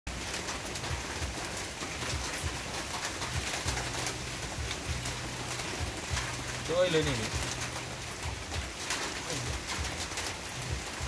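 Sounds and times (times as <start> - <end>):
steady patter with small ticks: 0.1 - 11.0.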